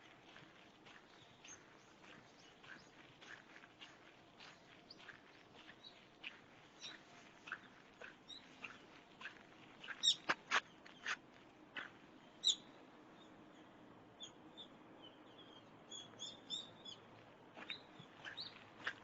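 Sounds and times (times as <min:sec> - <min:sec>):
birds chirping: 0:00.0 - 0:11.2, 0:11.8 - 0:19.0.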